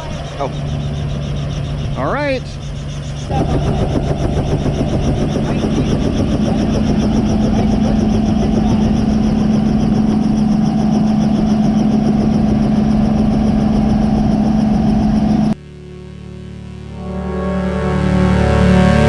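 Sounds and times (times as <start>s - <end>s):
helicopter engine and rotor hum: 0.0s - 15.6s.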